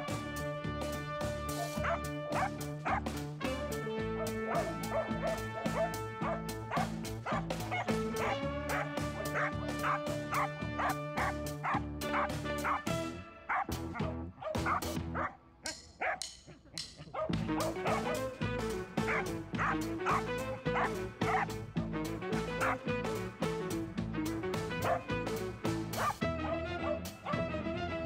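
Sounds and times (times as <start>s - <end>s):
background music: 0.0s - 28.0s
dogs barking: 1.4s - 16.3s, 17.0s - 22.9s, 24.8s - 25.2s, 25.9s - 27.4s.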